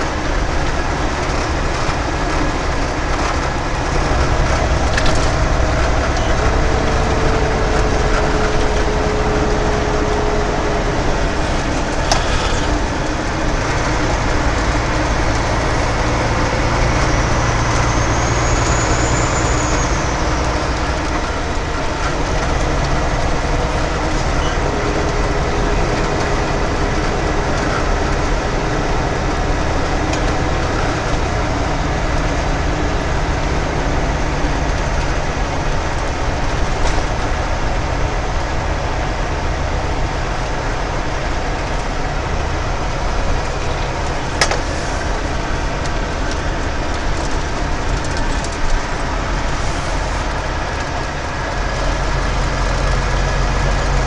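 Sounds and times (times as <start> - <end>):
road noise: 0.0 - 54.0
truck engine drone: 0.0 - 54.0.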